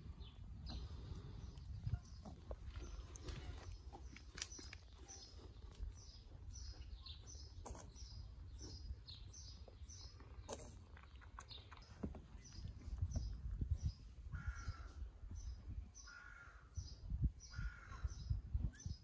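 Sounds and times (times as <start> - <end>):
small bird chirping: 0.2 - 14.9, 17.5 - 19.0.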